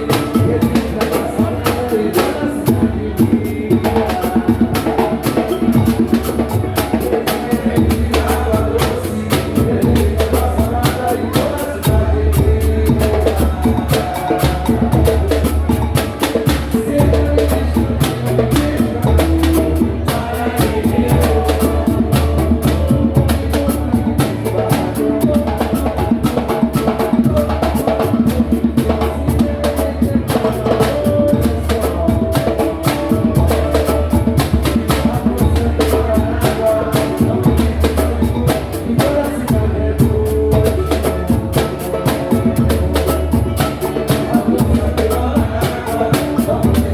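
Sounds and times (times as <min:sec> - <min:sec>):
deep pulsing bass drum: 0:00.0 - 0:46.9
rapid percussion: 0:00.0 - 0:46.9.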